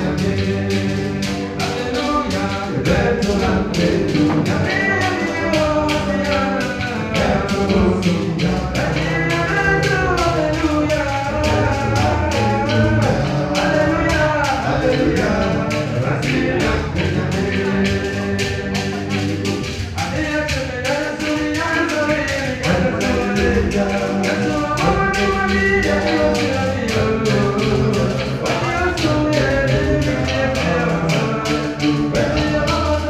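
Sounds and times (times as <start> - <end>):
men singing into microphones: 0.0 - 33.0
steady drum beat: 0.0 - 33.0.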